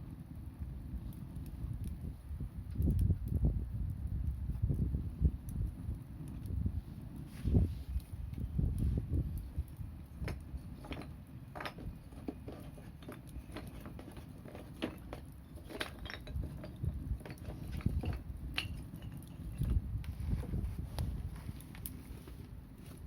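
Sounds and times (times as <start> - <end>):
steady low rumble: 0.0 - 14.6, 15.2 - 23.0
campfire crackling and popping: 0.0 - 23.0.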